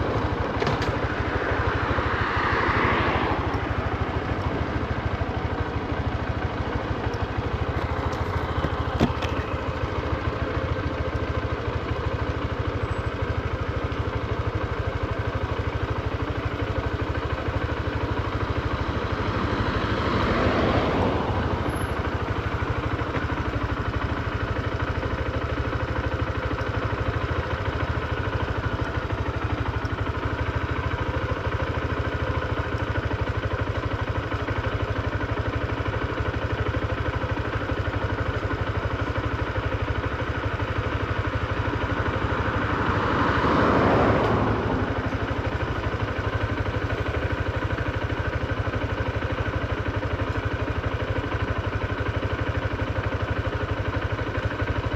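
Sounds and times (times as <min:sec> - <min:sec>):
motorcycle engine idling: 0:00.0 - 0:54.9
traffic noise: 0:00.0 - 0:54.9.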